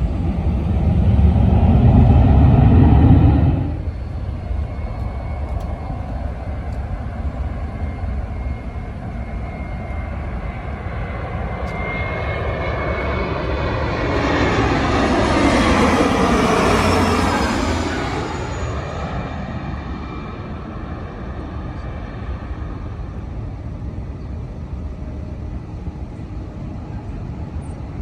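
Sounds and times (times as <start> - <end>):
jet airliner engine whine and rumble: 0.0 - 28.0.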